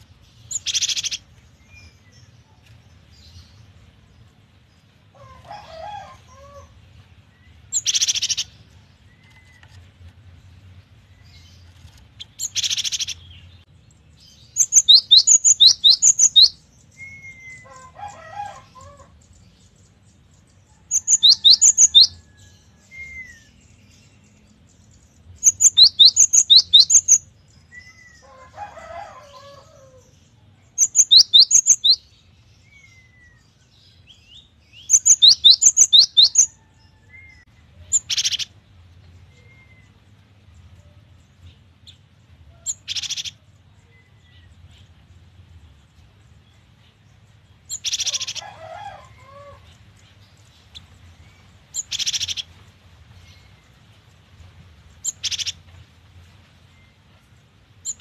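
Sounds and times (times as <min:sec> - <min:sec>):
soft low bird chatter: 0:00.0 - 0:58.0.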